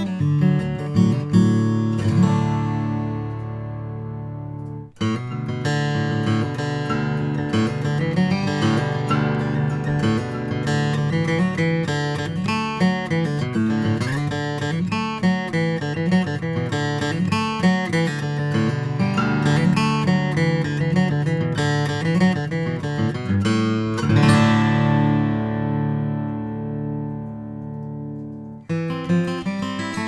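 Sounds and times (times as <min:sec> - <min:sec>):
acoustic guitar picked notes: 0:00.0 - 0:30.0.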